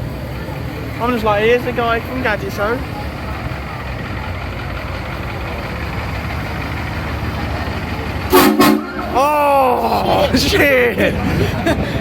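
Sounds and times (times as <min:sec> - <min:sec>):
vehicle engine running low revs: 0:00.0 - 0:12.0.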